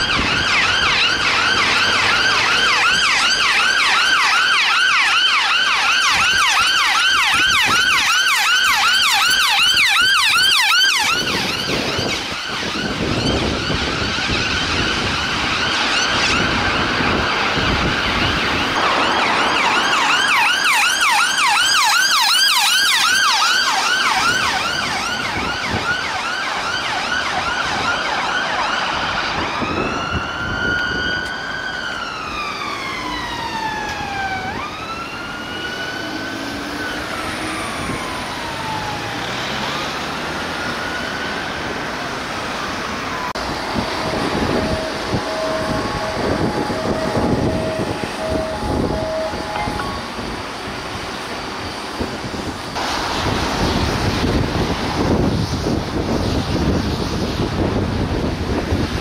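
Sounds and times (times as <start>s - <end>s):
emergency siren: 0.0s - 59.0s
engine and road noise: 0.0s - 59.0s.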